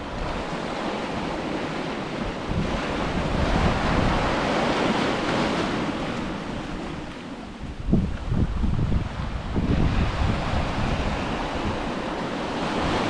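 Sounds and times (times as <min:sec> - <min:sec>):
wave breaking on beach: 0:00.0 - 0:13.0
wind rumbling on microphone: 0:00.0 - 0:13.0.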